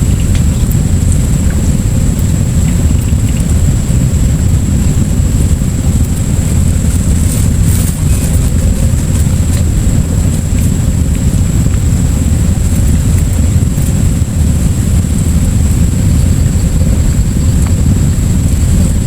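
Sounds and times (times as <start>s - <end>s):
thin high whine: 0.0s - 19.0s
wind buffeting microphone: 0.0s - 19.0s.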